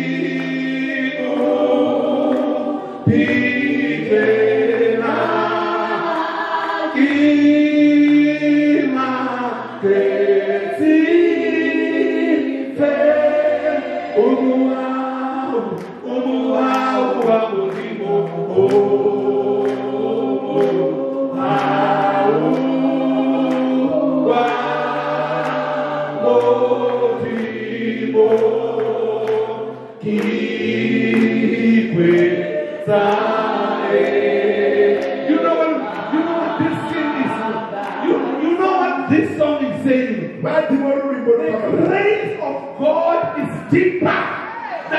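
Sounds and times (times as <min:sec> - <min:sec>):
choir singing gospel: 0:00.0 - 0:44.9.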